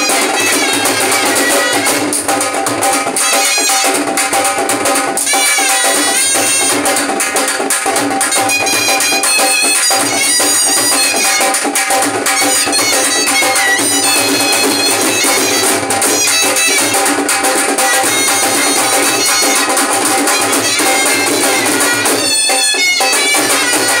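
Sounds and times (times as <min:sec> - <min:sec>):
drums beating a steady rhythm: 0:00.0 - 0:24.0
shehnai melody: 0:00.0 - 0:24.0.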